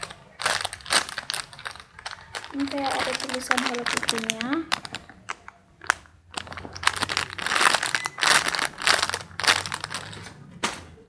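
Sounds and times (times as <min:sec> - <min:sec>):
plastic wrapping crinkling: 0:00.0 - 0:10.4.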